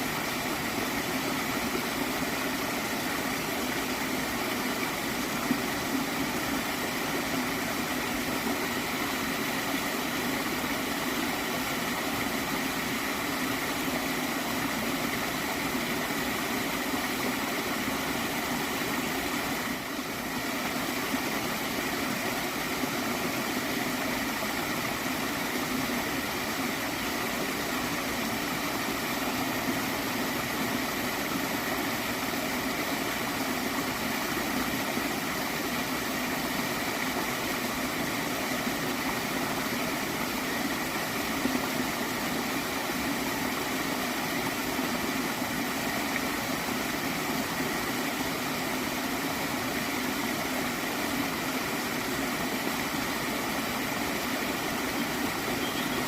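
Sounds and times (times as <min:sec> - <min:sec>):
stream gurgling: 0:00.0 - 0:56.0.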